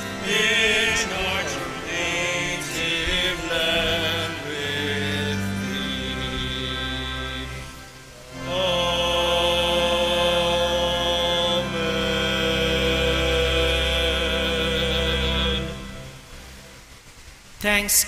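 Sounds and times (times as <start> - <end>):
voices singing held notes: 0.0 - 16.7.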